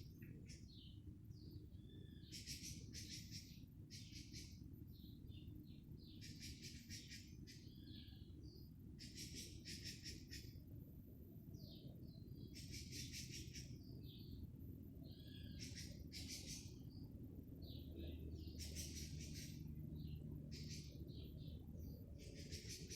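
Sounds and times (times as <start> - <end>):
birds singing trills and chirps: 0.0 - 22.9
low background rumble: 0.0 - 22.9.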